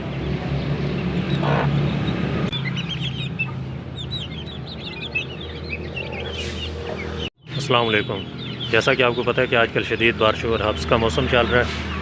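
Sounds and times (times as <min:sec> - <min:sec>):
young chickens peeping: 0:00.0 - 0:12.0.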